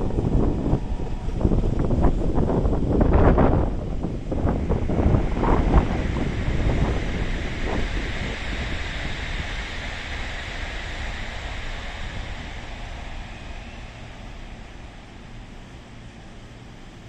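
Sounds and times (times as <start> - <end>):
electric train hiss: 0.0 - 17.0
wind rumbling on microphone: 0.0 - 17.0.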